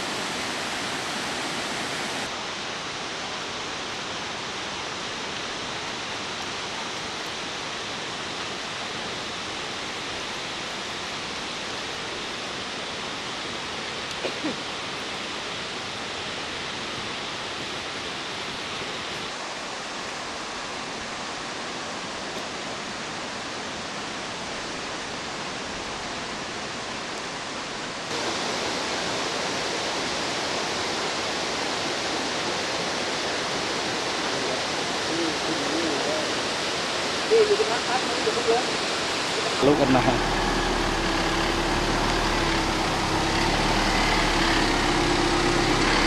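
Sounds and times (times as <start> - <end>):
water rushing: 0.0 - 46.0.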